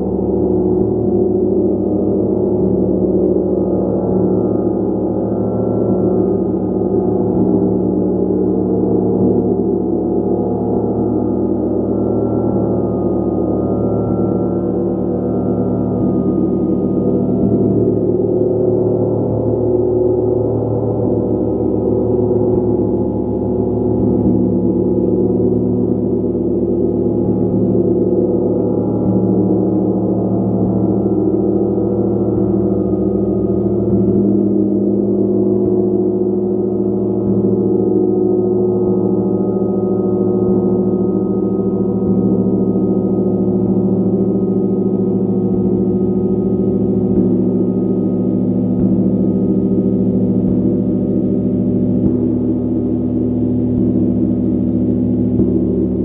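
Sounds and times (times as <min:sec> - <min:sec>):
large gong ringing: 0:00.0 - 0:56.0.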